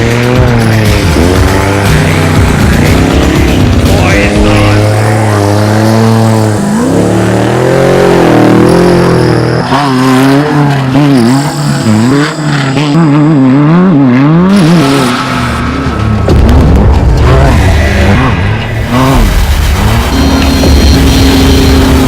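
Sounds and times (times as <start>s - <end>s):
race vehicle engine revving: 0.0s - 22.0s.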